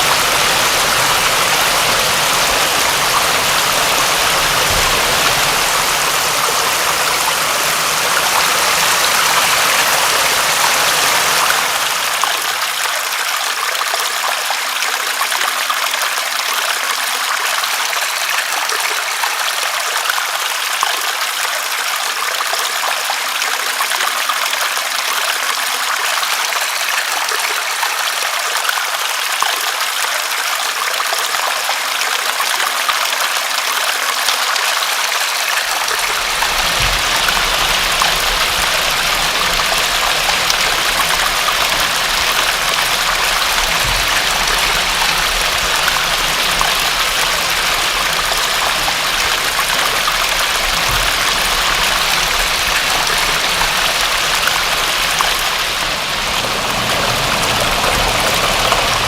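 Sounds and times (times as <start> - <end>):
running water: 0.0 - 59.0
steady rain: 0.0 - 59.0.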